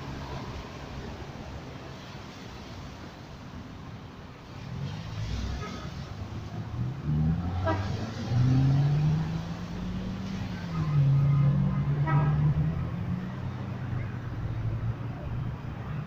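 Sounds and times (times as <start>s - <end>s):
vehicles driving past: 0.0s - 16.0s.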